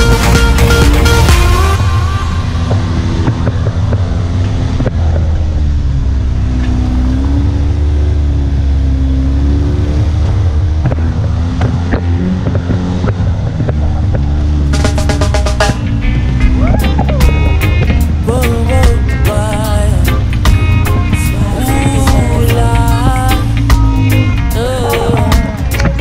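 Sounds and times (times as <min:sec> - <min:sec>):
off-road buggy engine: 0:00.0 - 0:26.0.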